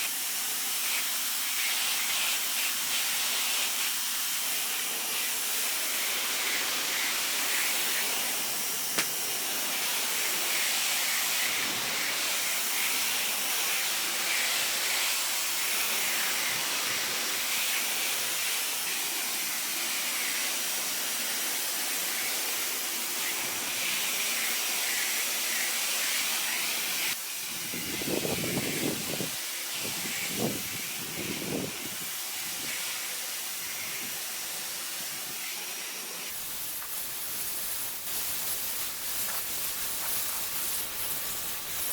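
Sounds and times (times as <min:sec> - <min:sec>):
pressure washer spraying water: 0:00.0 - 0:41.9.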